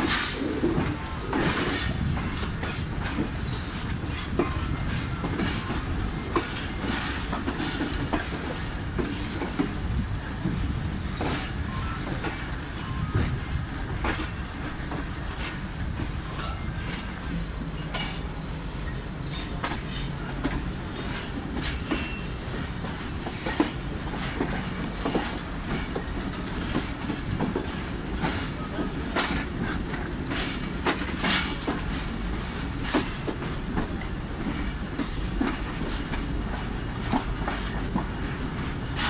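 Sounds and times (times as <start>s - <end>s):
train running gear rumble: 0.0s - 39.0s
wheels clacking over rail joints: 0.0s - 39.0s.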